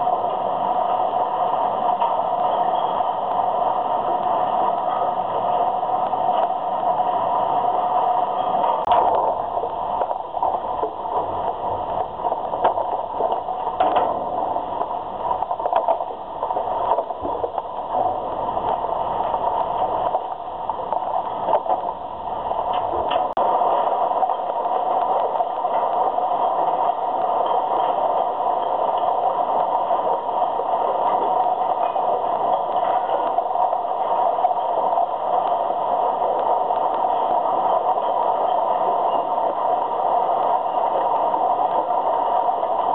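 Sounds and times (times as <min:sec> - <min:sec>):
sorting line machinery din: 0:00.0 - 0:42.9.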